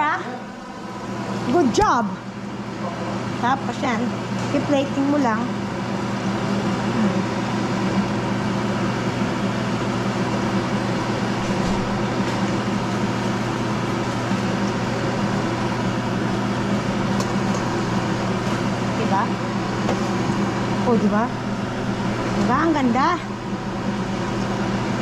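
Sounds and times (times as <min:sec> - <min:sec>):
fan motor humming: 0:00.0 - 0:25.0.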